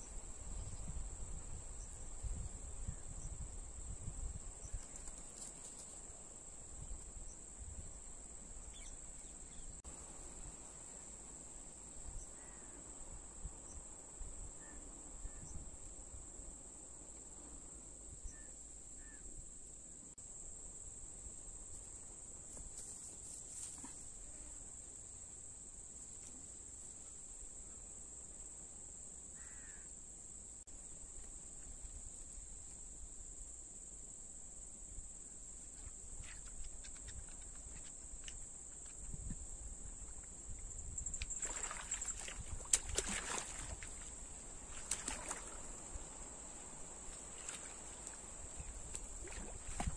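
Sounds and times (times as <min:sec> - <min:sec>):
crickets droning: 0:00.0 - 0:49.9.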